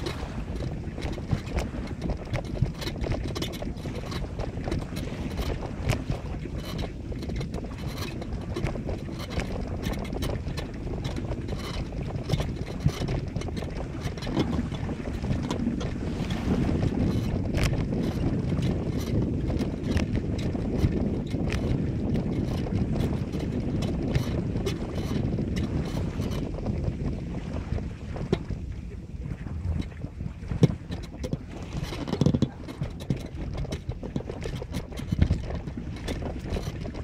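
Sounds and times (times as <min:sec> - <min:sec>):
small clicks and knocks: 0:00.0 - 0:26.6, 0:30.6 - 0:37.0
wind buffeting microphone: 0:00.0 - 0:37.0.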